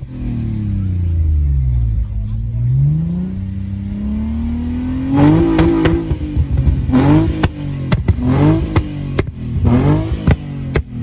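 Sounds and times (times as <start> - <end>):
car engine revving: 0.0 - 11.0
exhaust cracks: 1.7 - 11.0.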